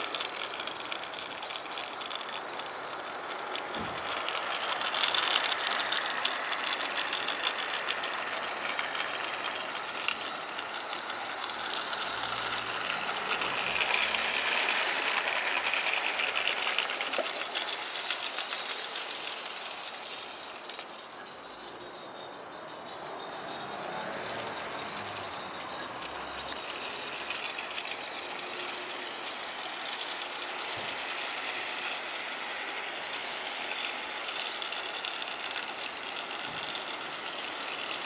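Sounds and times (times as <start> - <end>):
coaches rattling on track: 0.0 - 38.0
steam locomotive exhaust beats: 0.0 - 38.0.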